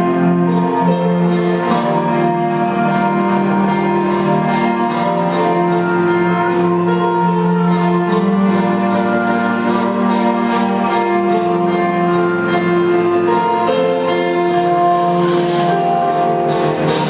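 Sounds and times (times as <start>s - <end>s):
instrumental music with held notes: 0.0s - 17.0s.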